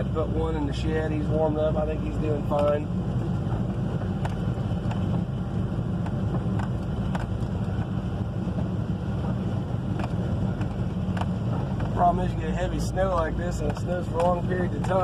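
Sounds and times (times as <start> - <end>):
vehicle engine rumble inside cab: 0.0 - 15.0.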